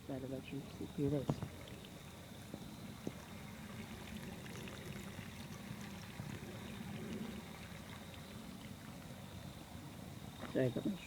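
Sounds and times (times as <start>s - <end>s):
water trickling in a stream: 0.0s - 11.0s.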